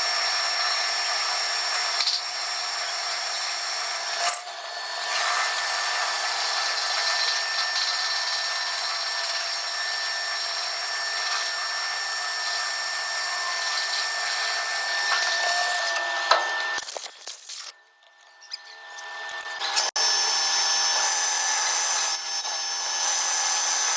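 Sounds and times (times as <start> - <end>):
metal lathe whine: 0.0 - 16.8, 17.6 - 23.9.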